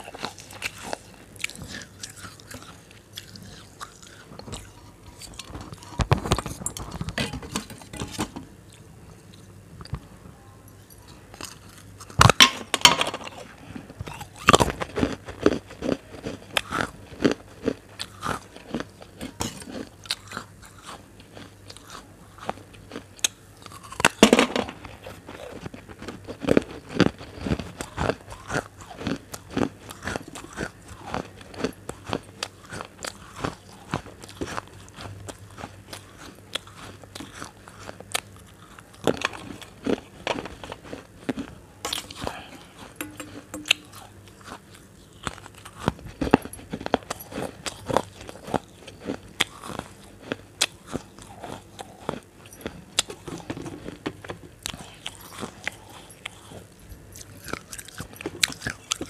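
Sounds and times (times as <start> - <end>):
crunchy eating: 0.0 - 10.1, 10.8 - 59.0.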